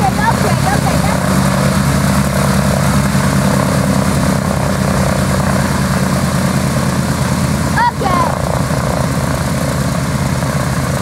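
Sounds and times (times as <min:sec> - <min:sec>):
radial aircraft engines idling: 0:00.0 - 0:11.0.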